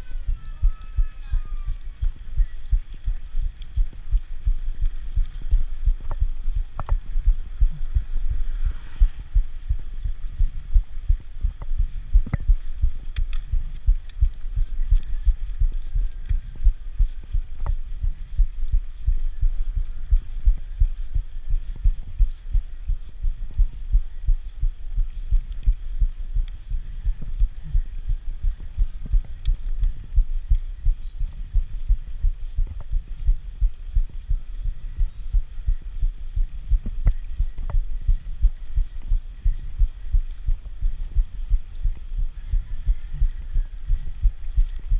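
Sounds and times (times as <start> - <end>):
thumping rumble on microphone: 0.0 - 44.9.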